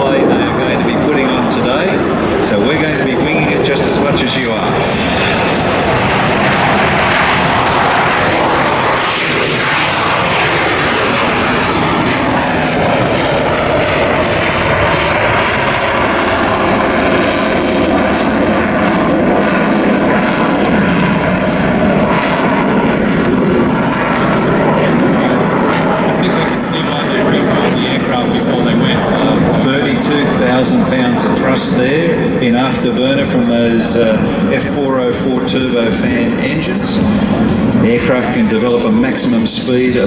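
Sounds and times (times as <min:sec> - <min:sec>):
jet passing in afterburner: 0:00.0 - 0:40.0.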